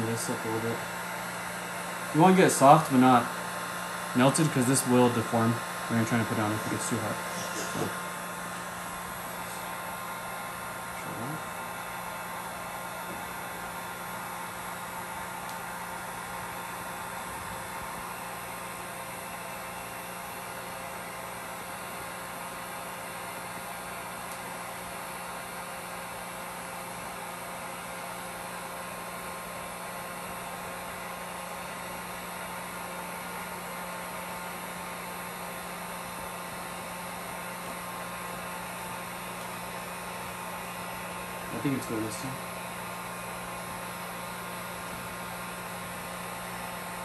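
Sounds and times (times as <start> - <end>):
heat gun fan hissing: 0.0 - 47.0
low electric hum: 0.0 - 47.0.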